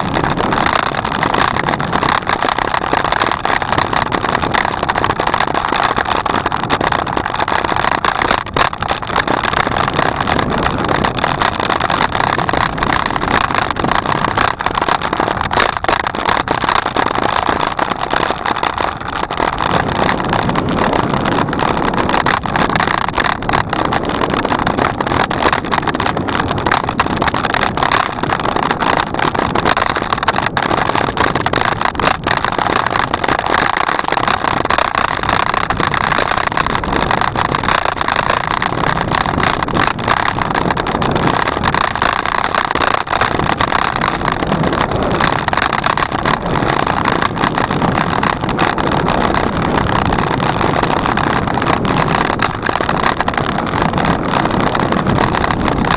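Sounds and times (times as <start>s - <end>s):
bicycle rushing noise: 0.0s - 55.9s
small rattles and clicks: 0.0s - 55.9s.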